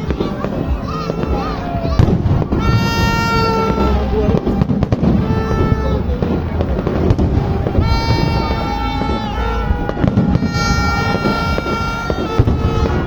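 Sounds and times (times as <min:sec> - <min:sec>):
fireworks crackling and booming: 0:00.0 - 0:13.0
horn blaring high note: 0:00.0 - 0:13.0.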